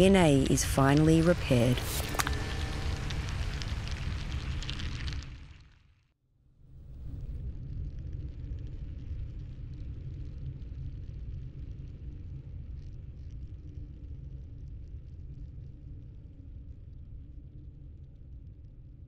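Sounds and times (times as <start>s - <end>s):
low ambient drone rumble: 0.0s - 5.7s, 6.7s - 19.0s
faint hiss and crackle: 0.0s - 5.9s, 6.9s - 19.0s.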